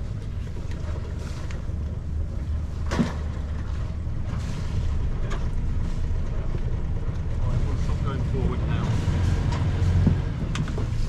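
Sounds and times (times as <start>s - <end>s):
boat engine running at low revs: 0.0s - 11.0s.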